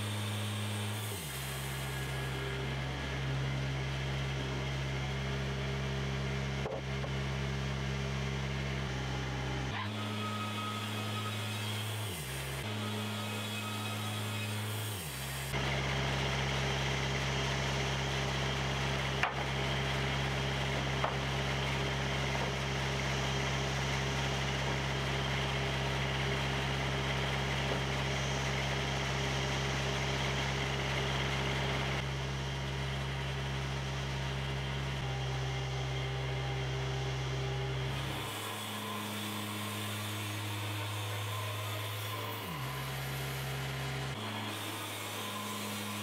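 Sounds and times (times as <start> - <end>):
band sawmill running: 0.0 - 46.0.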